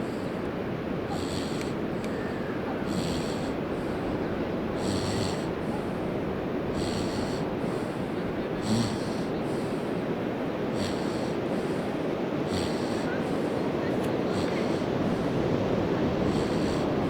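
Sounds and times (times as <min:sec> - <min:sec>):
person breathing heavily: 0:00.0 - 0:17.0
steady rushing noise: 0:00.0 - 0:17.0.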